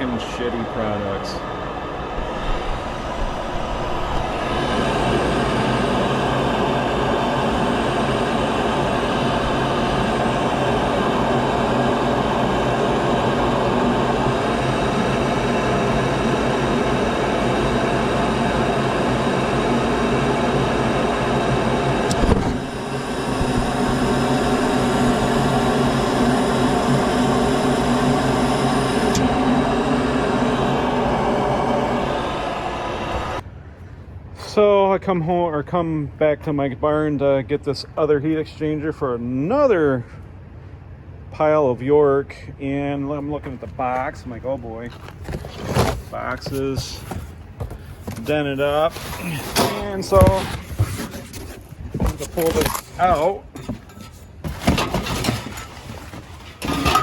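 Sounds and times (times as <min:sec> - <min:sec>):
steady mechanical drone: 0:00.0 - 0:57.0.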